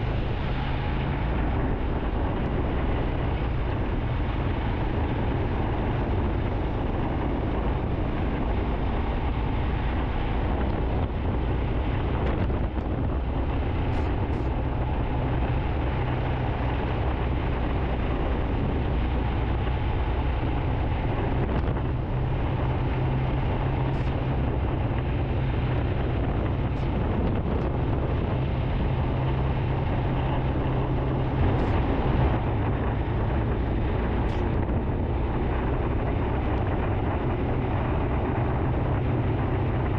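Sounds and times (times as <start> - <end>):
motorcycle engine cruising: 0.0 - 39.9
wet road noise: 0.0 - 39.9
wind rushing: 0.0 - 39.9.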